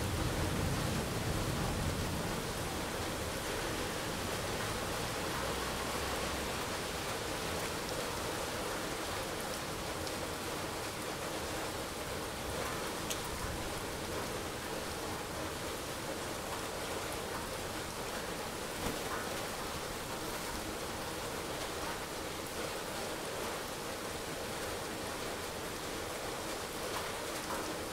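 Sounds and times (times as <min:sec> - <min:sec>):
rain falling: 0:00.0 - 0:27.9
sharp ticks of rain: 0:00.0 - 0:27.9.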